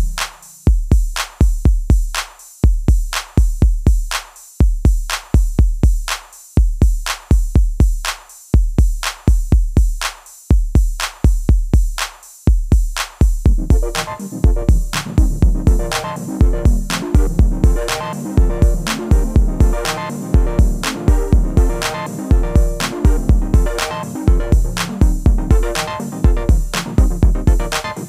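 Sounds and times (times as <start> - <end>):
drum machine beat: 0.0 - 28.0.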